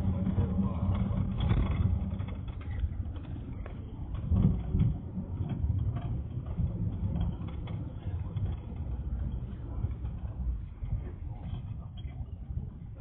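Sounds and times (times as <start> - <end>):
road noise: 0.0 - 12.0
minibus engine rumble: 0.0 - 13.0.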